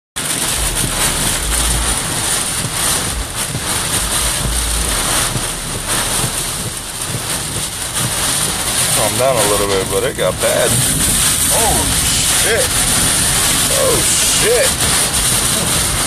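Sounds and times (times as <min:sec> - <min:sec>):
storm wind roaring: 0:00.2 - 0:16.0
wind gusts buffeting microphone: 0:00.4 - 0:16.0.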